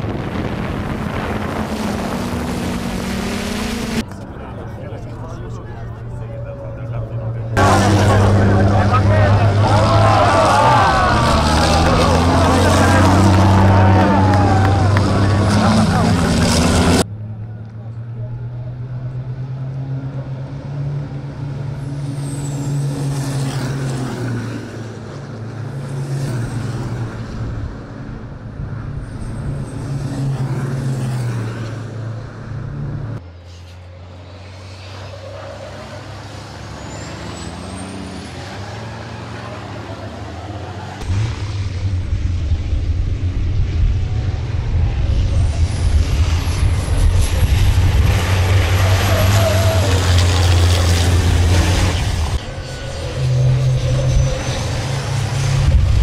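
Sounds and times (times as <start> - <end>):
truck diesel engines running hard: 0.0 - 56.0.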